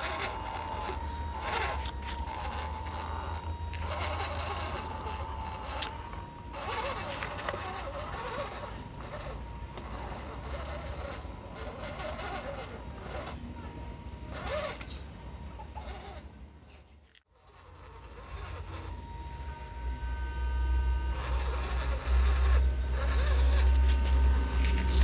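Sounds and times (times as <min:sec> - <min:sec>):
electric motors whining: 0:00.0 - 0:25.0.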